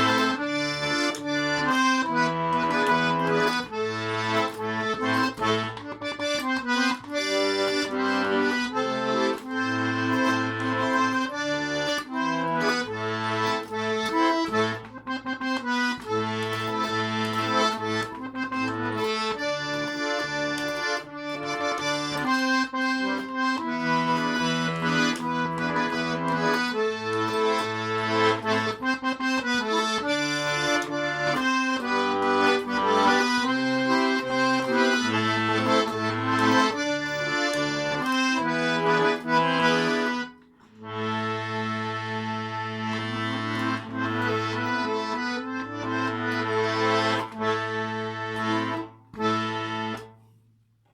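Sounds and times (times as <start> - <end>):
button accordion playing melody: 0.0 - 50.4.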